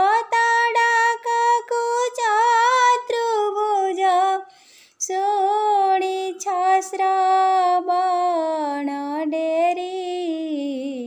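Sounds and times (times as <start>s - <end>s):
woman singing devotional song: 0.0s - 11.0s.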